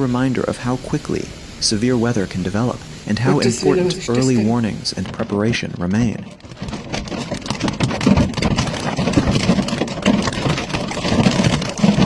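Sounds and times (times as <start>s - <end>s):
heavy rain and hail on a vehicle: 0.0s - 3.3s, 4.3s - 12.0s.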